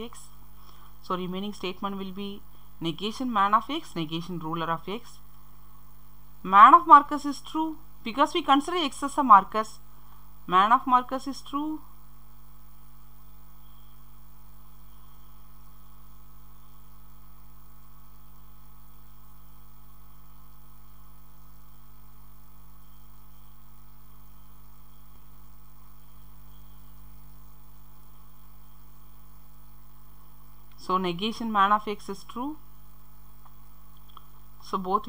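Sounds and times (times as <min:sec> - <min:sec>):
electrical mains hum: 0:00.0 - 0:35.0
faint hiss: 0:00.0 - 0:35.0.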